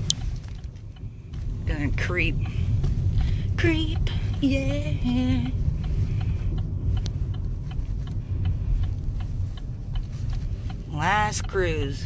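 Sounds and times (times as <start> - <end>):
car cabin rumble: 0.0 - 12.0
faint regular ticking: 0.0 - 12.0.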